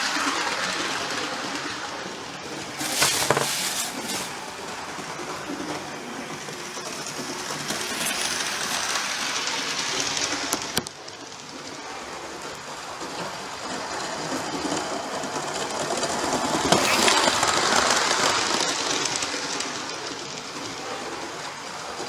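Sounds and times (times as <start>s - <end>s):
model train whirring and rattling: 0.0s - 22.0s.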